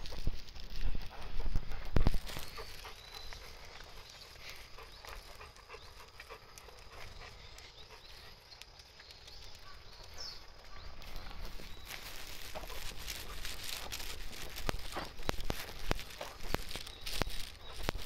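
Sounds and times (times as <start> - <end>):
footsteps on paved road: 0.0 - 7.1, 7.8 - 18.0
dog paws clicking on asphalt: 0.0 - 18.0.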